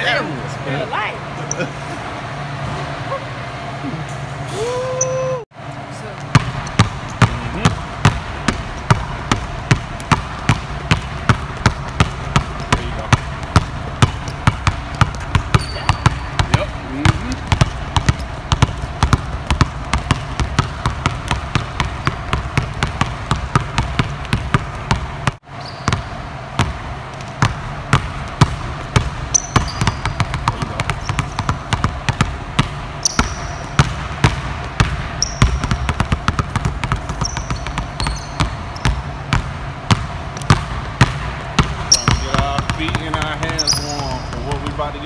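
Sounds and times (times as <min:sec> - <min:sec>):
sneakers squeaking: 0:06.0 - 0:45.0
basketballs bouncing on hardwood floor: 0:06.2 - 0:45.0.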